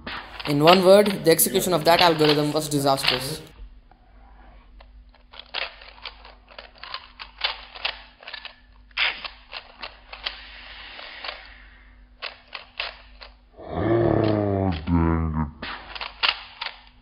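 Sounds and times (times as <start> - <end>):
puzzle cube plastic clicking: 0.1 - 3.5, 4.8 - 11.6, 12.2 - 13.4, 14.0 - 14.9, 15.6 - 17.0.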